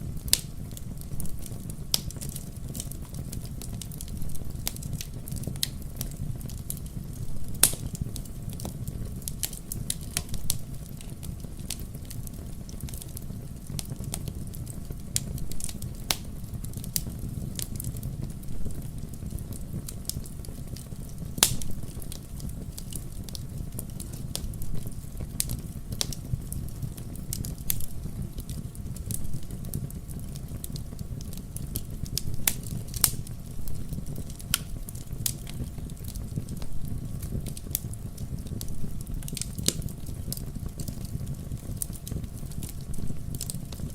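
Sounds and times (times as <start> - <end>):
fire rumbling: 0.0 - 43.9
wood fire crackling and popping: 0.0 - 43.9.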